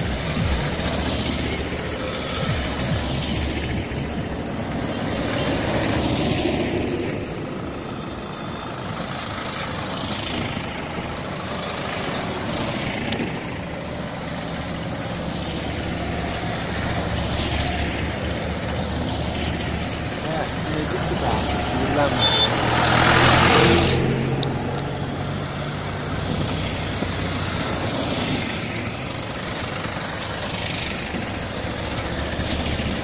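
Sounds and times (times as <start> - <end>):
tyres on road: 0.0 - 33.0
vans driving past: 0.0 - 33.0.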